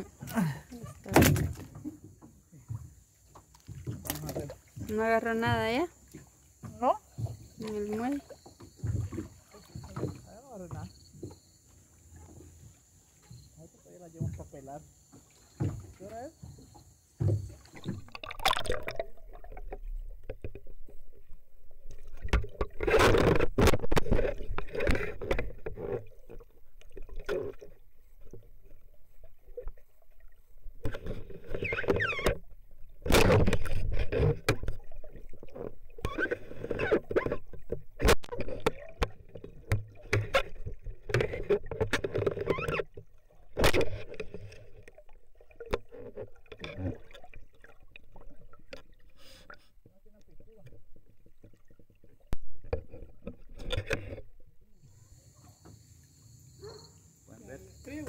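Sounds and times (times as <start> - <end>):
water sloshing and gurgling: 0.0 - 58.0.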